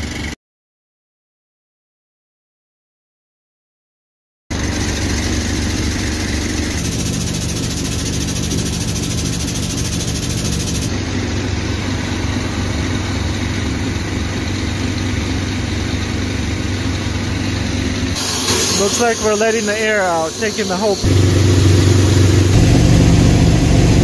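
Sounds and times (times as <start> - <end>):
engine idling: 4.5 - 24.0.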